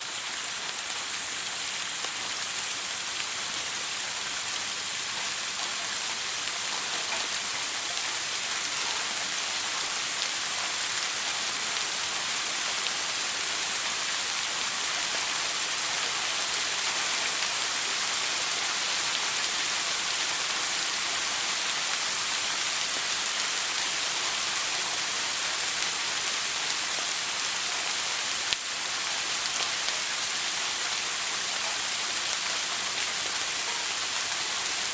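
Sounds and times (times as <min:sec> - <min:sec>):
shower spray running: 0:00.0 - 0:34.9.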